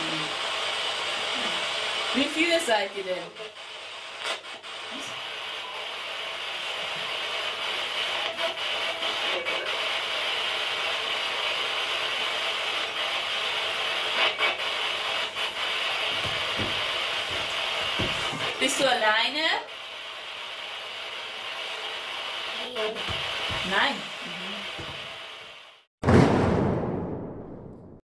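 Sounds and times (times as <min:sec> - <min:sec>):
static hiss: 0:00.0 - 0:25.9.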